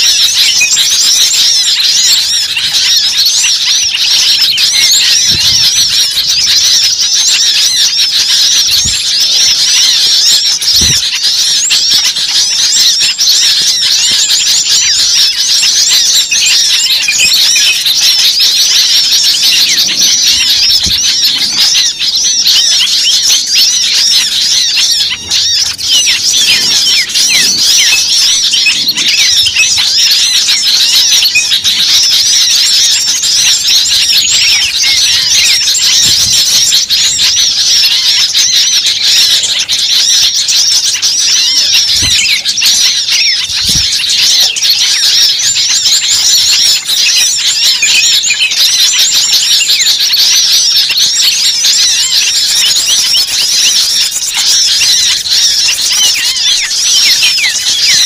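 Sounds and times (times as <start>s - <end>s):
many birds chirping: 0.0s - 58.0s.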